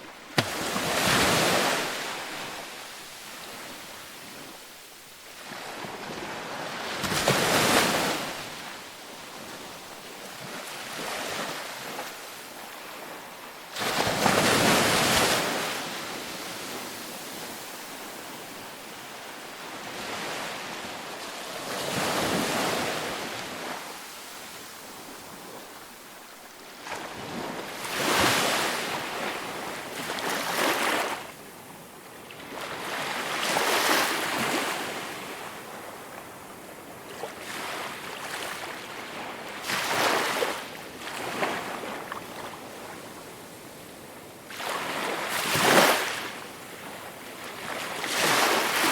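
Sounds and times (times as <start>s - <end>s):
waves breaking on beach: 0.0s - 43.4s, 44.4s - 48.9s
wind: 0.0s - 48.9s.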